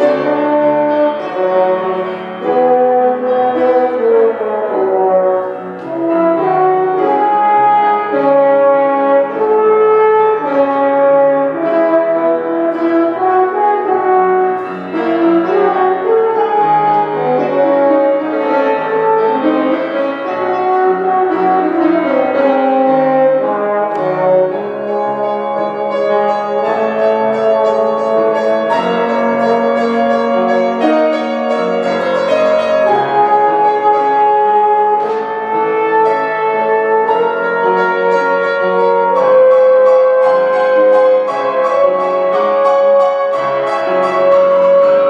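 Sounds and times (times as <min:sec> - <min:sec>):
brass instrument melody: 0:00.0 - 0:45.0
piano accompaniment: 0:00.0 - 0:45.0.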